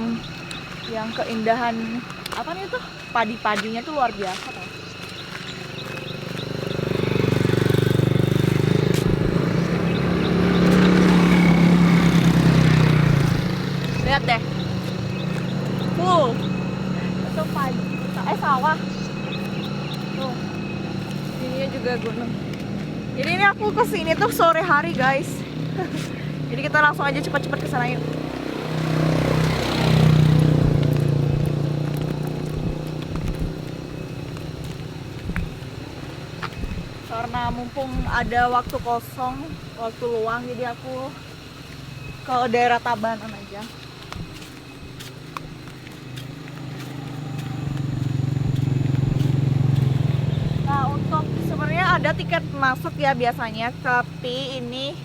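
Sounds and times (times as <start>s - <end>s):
small motorbike engine running: 4.3s - 55.0s.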